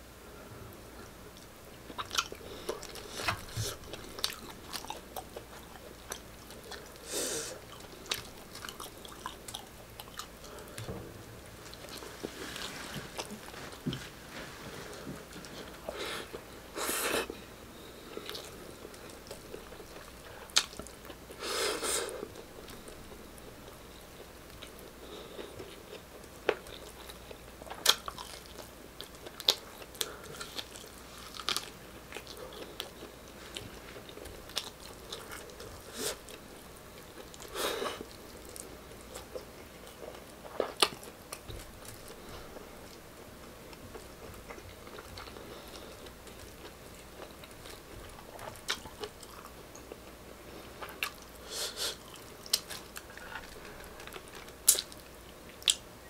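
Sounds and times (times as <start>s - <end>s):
person chewing food: 1.0s - 11.0s, 11.6s - 55.9s.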